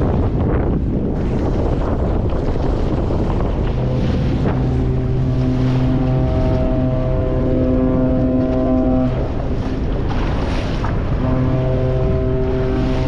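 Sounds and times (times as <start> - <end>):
boat rushing on water: 0.0 - 13.0
deep ship horn blast: 0.0 - 13.0
wind buffeting microphone: 0.0 - 13.0.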